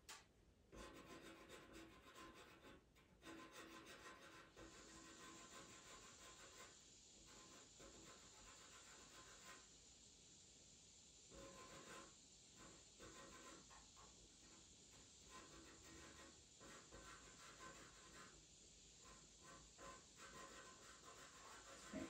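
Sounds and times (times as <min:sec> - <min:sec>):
pastel pencil scratching on paper: 0:00.8 - 0:09.7, 0:11.3 - 0:18.4, 0:19.0 - 0:22.0.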